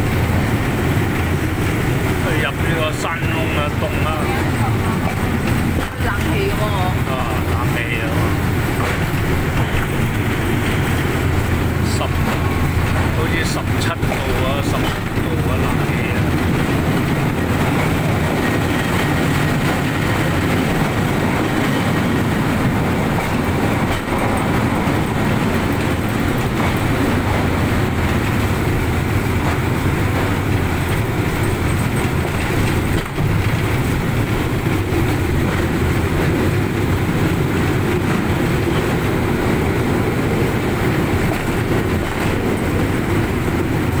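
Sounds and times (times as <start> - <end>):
rail car wheels rumbling on rails: 0.0 - 44.0.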